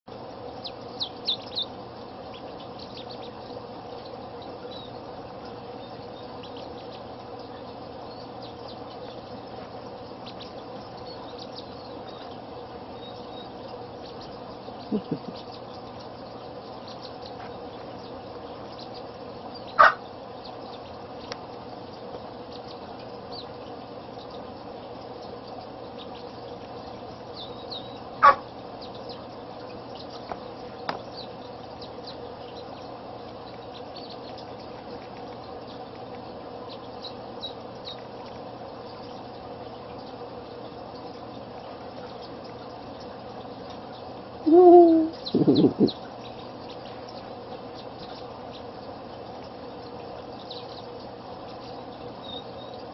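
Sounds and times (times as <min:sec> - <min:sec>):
ducklings peeping: 0:00.1 - 0:52.9
steady background hum: 0:00.1 - 0:52.9.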